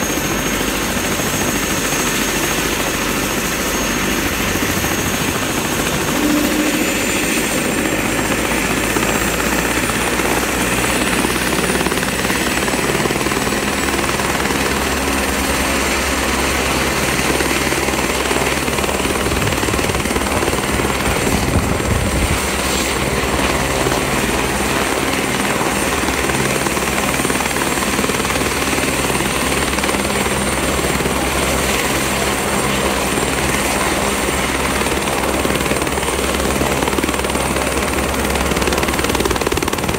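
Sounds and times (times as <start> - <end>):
helicopter rotors turning: 0.0 - 39.9
helicopter turbine whine: 0.0 - 39.9.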